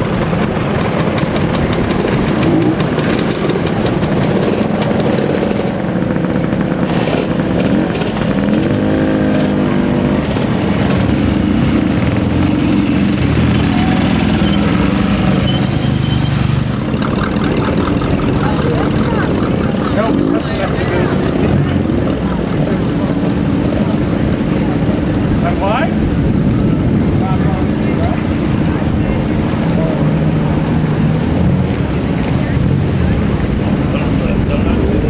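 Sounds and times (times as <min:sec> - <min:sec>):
scooter and motorcycle engines: 0:00.0 - 0:35.0.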